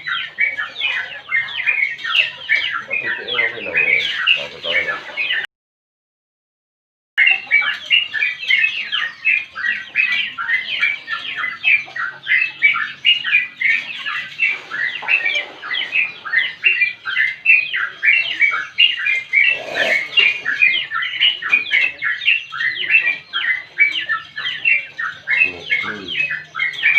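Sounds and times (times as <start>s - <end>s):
bird singing chattering notes: 0.0s - 5.5s, 7.2s - 26.9s.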